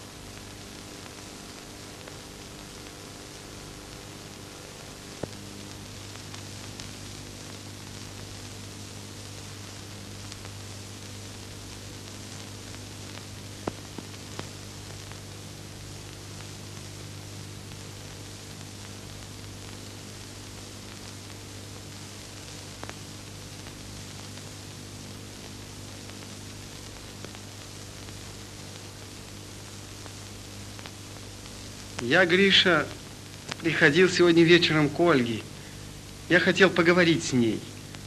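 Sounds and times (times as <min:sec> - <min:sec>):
film soundtrack hiss and hum: 0:00.0 - 0:38.0
sharp crackle clicks: 0:00.3 - 0:38.0.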